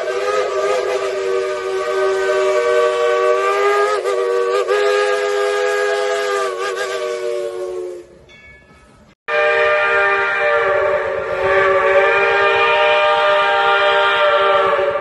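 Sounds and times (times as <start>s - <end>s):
steam whistle blasts: 0.0s - 8.3s, 9.3s - 15.0s.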